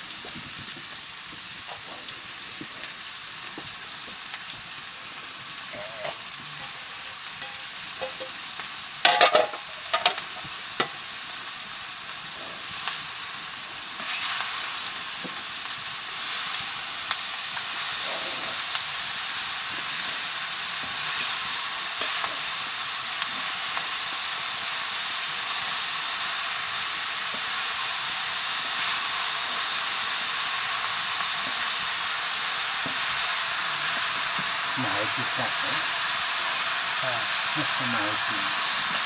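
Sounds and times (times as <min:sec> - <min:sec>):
mushrooms sizzling in a pan: 0:00.0 - 0:39.0.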